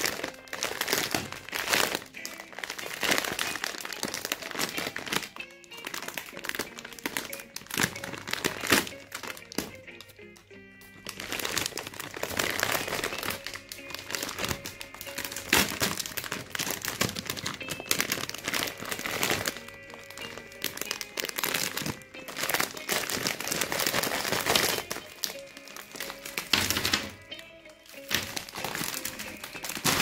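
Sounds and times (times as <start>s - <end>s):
plastic bag crinkling: 0.0s - 10.2s, 10.8s - 30.0s
rummaging through wrapped sweets: 0.0s - 30.0s
soft background music: 0.0s - 30.0s.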